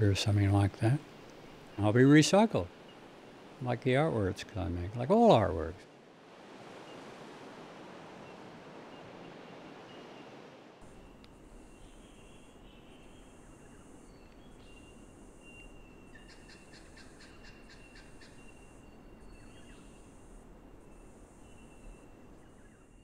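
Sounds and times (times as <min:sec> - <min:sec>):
insects trilling: 0:00.0 - 0:05.7, 0:08.1 - 0:23.0.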